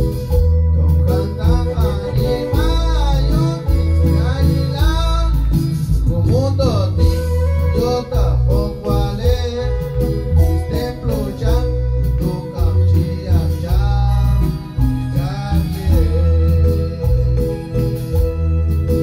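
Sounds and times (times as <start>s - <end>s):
drum kit: 0.0s - 19.0s
electric bass: 0.0s - 19.0s
person singing: 0.0s - 19.0s.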